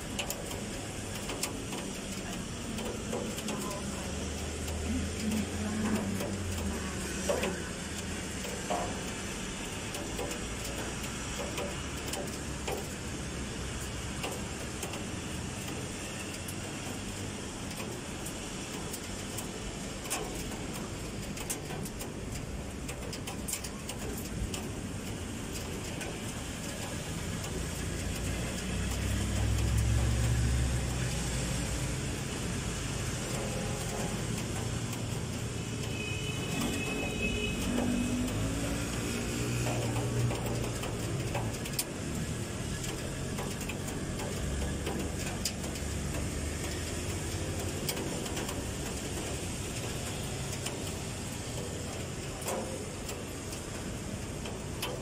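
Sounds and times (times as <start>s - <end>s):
low vehicle engine rumble: 0.0s - 55.0s
steady rain: 0.0s - 55.0s
traffic on wet roads: 0.0s - 55.0s.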